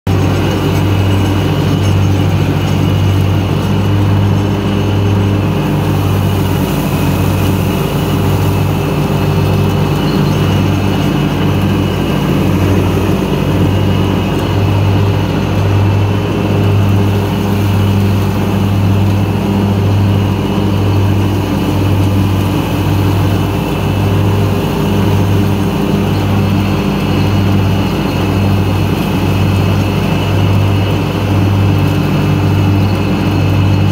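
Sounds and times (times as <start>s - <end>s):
mower engine chopping leaves: 0.1s - 33.9s.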